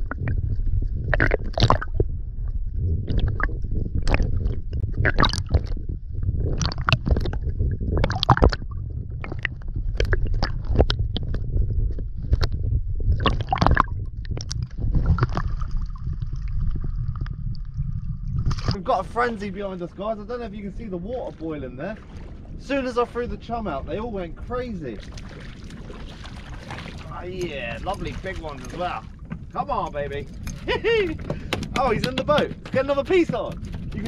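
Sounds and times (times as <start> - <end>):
water sloshing and gurgling: 0.0 - 34.0.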